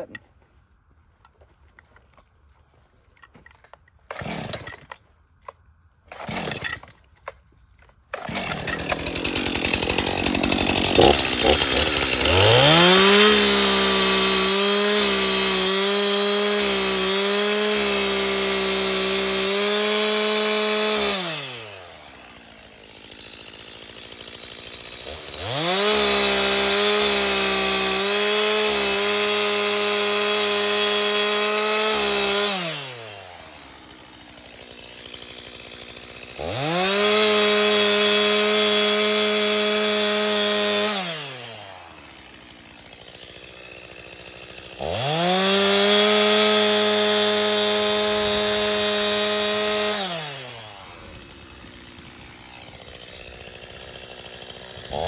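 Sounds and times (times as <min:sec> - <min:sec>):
chainsaw cutting wood: 0:00.0 - 0:00.3, 0:03.2 - 0:55.0.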